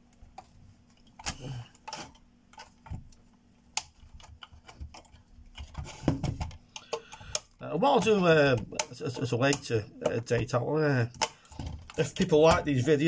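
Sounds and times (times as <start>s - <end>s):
plastic clicks and scrapes: 0.0s - 13.0s.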